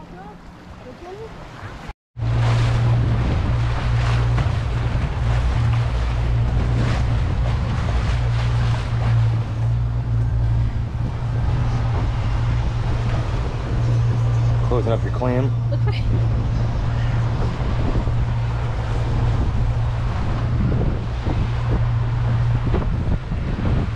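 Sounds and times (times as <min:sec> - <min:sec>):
outboard motors droning: 0:00.0 - 0:23.9
water splashing along hull: 0:00.0 - 0:23.9
wind buffeting microphone: 0:00.6 - 0:23.9.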